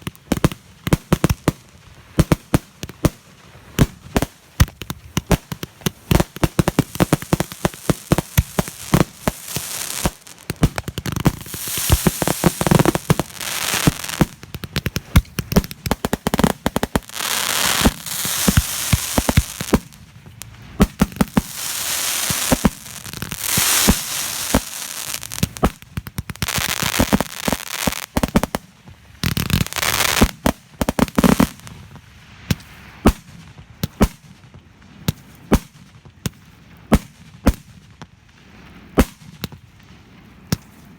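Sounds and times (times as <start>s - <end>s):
crackling hiss: 0.0s - 33.0s
fireworks cracking and popping: 0.0s - 38.1s.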